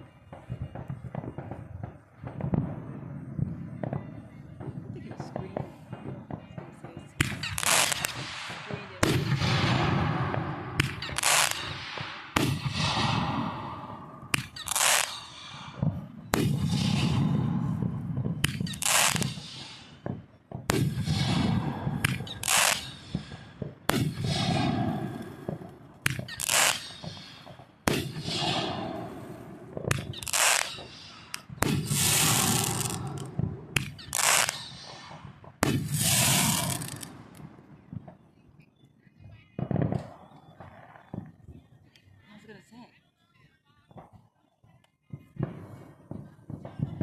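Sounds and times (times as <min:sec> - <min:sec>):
fireworks bangs with hiss: 0:00.0 - 0:38.2, 0:39.6 - 0:41.6, 0:45.1 - 0:47.0.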